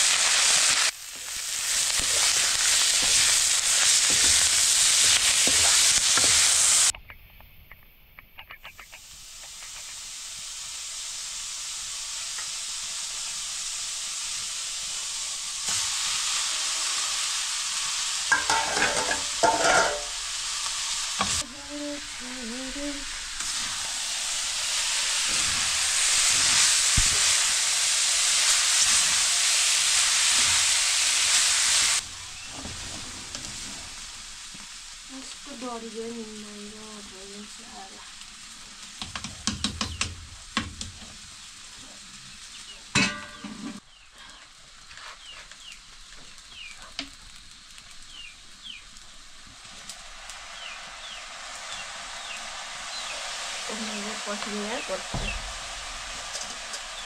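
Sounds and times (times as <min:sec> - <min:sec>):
food sizzling in a pan: 0:00.0 - 0:07.0, 0:08.4 - 0:57.0.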